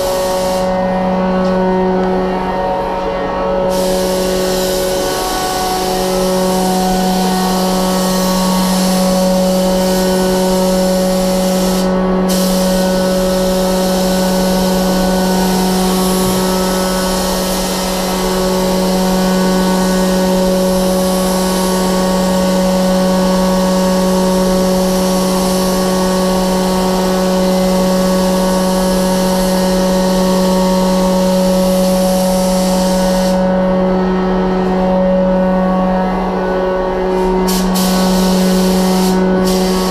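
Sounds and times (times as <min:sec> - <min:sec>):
spray gun air hiss: 0:00.0 - 0:01.6, 0:03.7 - 0:33.6, 0:37.1 - 0:39.9
machinery hum: 0:00.0 - 0:39.9.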